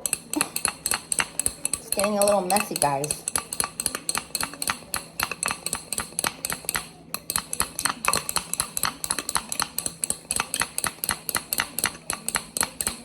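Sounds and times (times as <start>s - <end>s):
strainer clinking against container: 0.0s - 13.0s.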